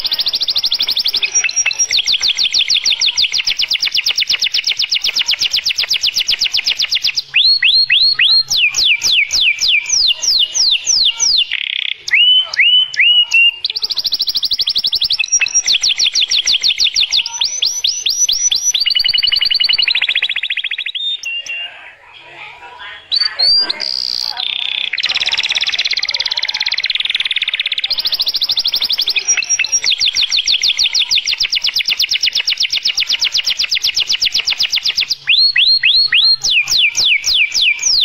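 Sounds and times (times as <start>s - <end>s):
canary singing trills: 0.0s - 22.1s, 22.7s - 38.0s.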